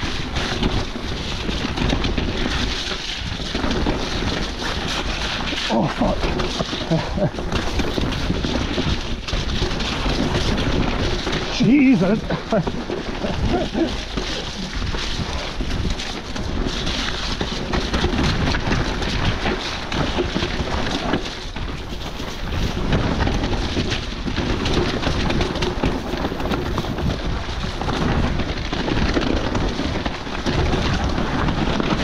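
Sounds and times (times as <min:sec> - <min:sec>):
bike rattling over bumps: 0:00.0 - 0:32.0
wind buffeting microphone: 0:00.0 - 0:32.0.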